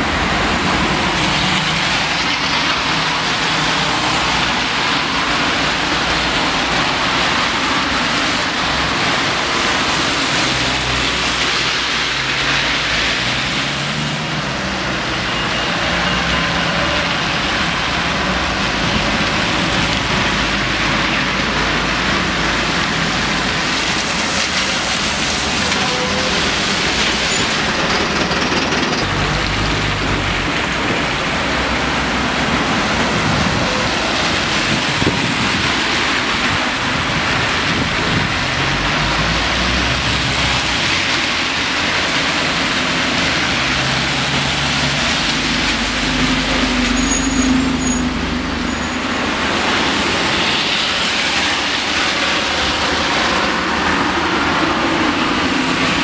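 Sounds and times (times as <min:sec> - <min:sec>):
bus diesel engines running: 0:00.0 - 0:56.0
tyres hissing on wet road: 0:00.0 - 0:56.0.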